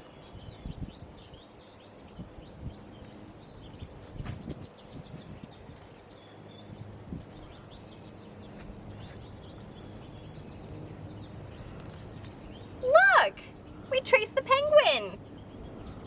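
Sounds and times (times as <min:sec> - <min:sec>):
low outdoor hum: 0:00.0 - 0:16.0
songbirds chirping: 0:00.0 - 0:16.0.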